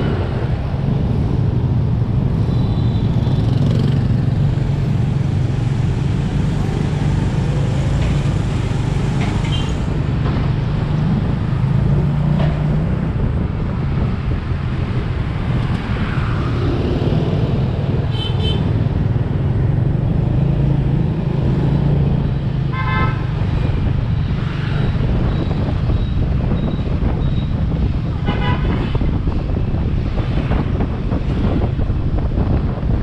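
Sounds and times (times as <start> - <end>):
road noise: 0.0 - 33.0.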